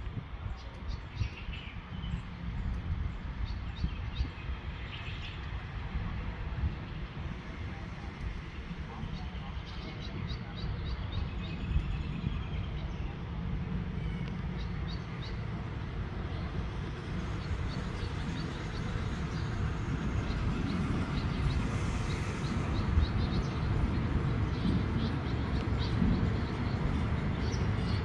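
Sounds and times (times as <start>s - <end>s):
diesel train rumble: 5.5s - 28.0s.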